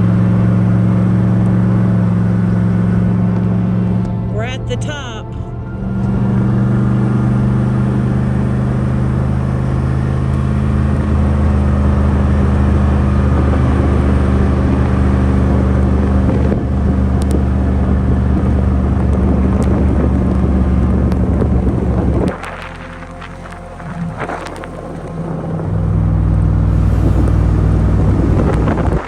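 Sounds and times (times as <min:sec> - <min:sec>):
low engine drone: 0:00.0 - 0:29.0
road noise: 0:00.0 - 0:29.0.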